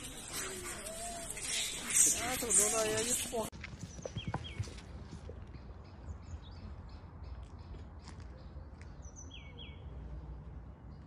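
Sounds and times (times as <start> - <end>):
wild birds chirping: 0.0 - 11.0.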